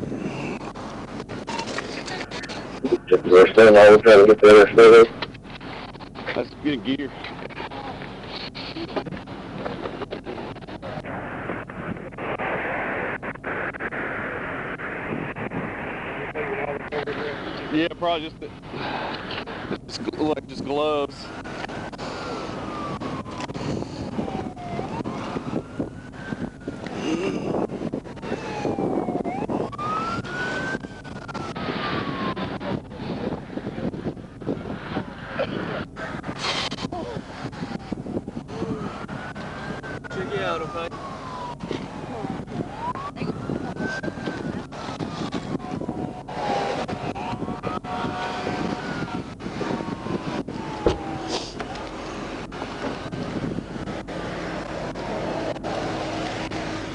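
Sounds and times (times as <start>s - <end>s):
emergency vehicle siren wailing: 0.0s - 6.2s, 6.8s - 56.9s
wind on microphone: 0.0s - 6.3s, 7.2s - 56.9s.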